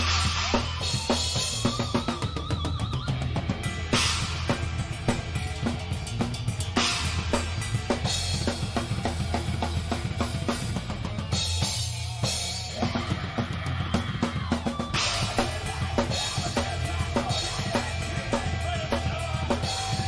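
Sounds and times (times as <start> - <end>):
rock drum kit playing: 0.0 - 20.0
low bass: 3.1 - 20.0.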